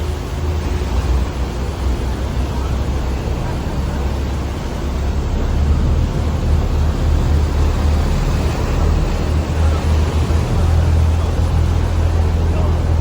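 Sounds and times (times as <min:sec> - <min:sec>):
boat engine droning: 0:00.0 - 0:13.0
rushing wind and water: 0:00.0 - 0:13.0.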